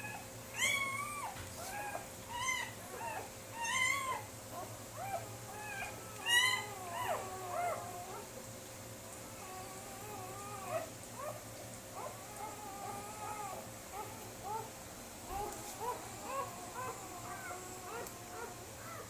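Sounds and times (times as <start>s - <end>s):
puppies whining: 0.0s - 8.4s, 9.3s - 19.0s.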